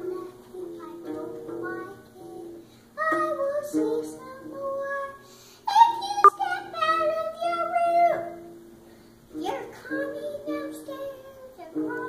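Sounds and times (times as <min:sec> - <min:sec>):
boy singing: 0:00.0 - 0:08.4, 0:09.4 - 0:12.0
strummed small acoustic guitar: 0:00.0 - 0:12.0.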